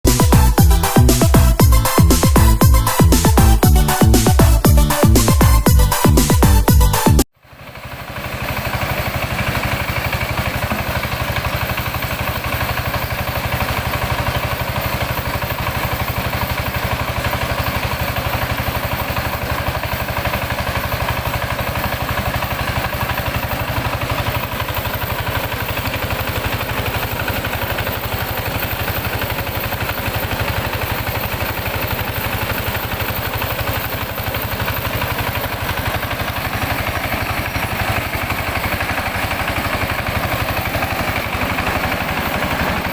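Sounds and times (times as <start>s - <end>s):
rice huller engine running: 0.0s - 42.9s.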